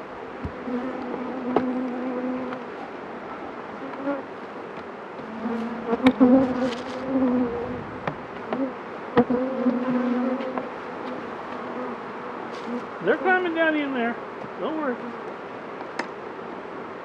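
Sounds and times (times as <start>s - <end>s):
honeybees buzzing: 0.0s - 16.4s.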